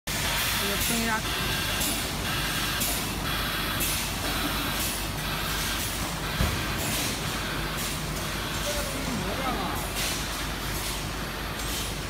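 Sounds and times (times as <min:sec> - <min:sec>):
machine humming: 0:00.1 - 0:12.0.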